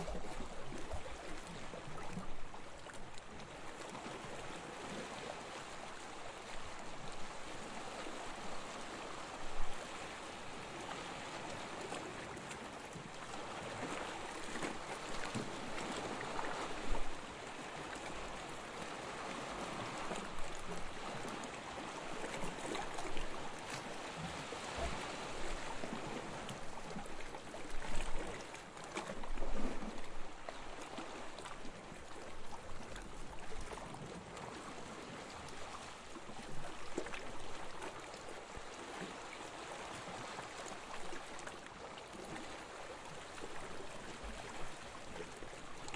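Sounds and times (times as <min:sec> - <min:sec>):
sea waves washing onto beach: 0:00.0 - 0:45.9
wave splashes: 0:00.0 - 0:45.9.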